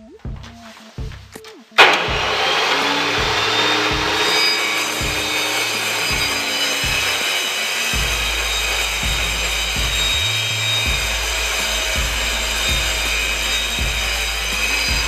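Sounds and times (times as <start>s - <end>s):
circular saw cutting chipboard: 1.8s - 15.0s.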